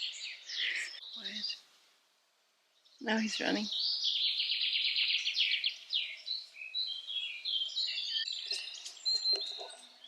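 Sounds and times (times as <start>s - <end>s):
songbird singing: 0.0s - 1.9s, 2.6s - 10.0s.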